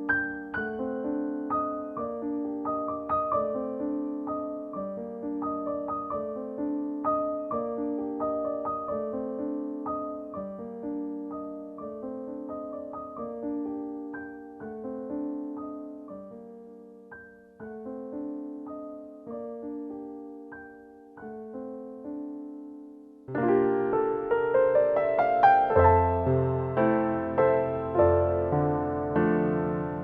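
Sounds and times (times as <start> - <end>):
soft solo piano music: 0.0 - 30.0.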